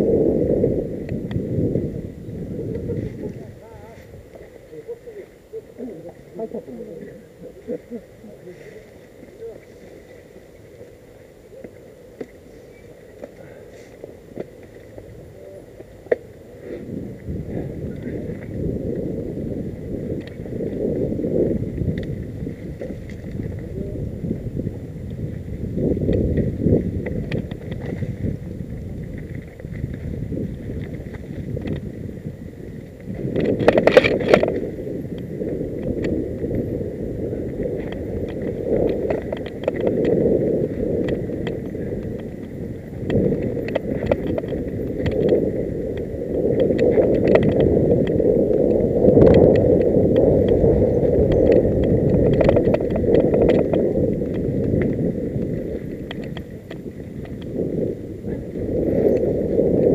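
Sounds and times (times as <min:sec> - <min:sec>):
bike rattling over bumps: 0:00.0 - 0:59.9
wind on microphone: 0:00.0 - 0:59.9
tyres on dirt and leaves: 0:00.8 - 0:59.4.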